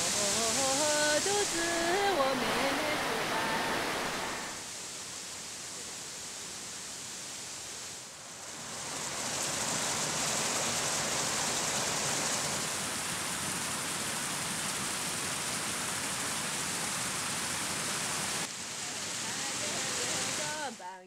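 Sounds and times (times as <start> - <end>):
stream water rushing: 0.0 - 20.8.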